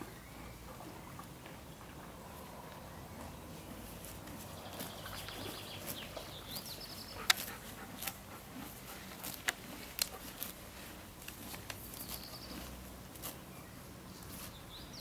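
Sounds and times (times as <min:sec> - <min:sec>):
horse tearing and chewing grass: 0:00.0 - 0:15.0
small birds chirping: 0:00.0 - 0:15.0.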